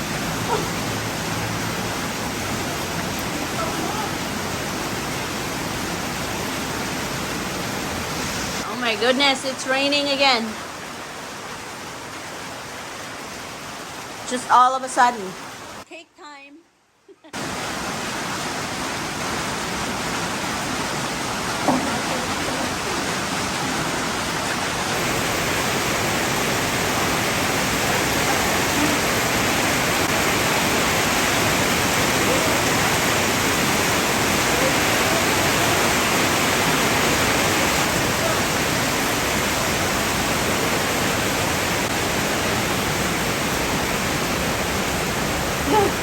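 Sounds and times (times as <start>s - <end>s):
heavy rain pouring: 0.0s - 15.9s, 17.4s - 46.0s.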